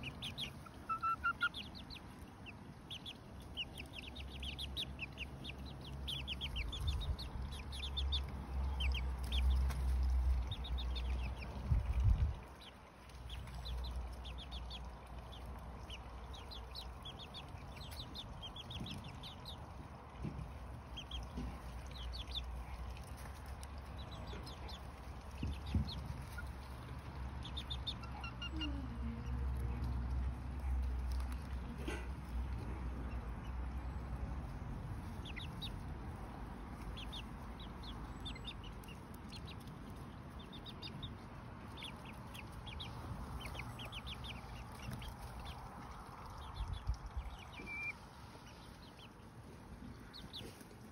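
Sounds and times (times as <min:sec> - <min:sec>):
chicks peeping: 0:00.0 - 0:50.9.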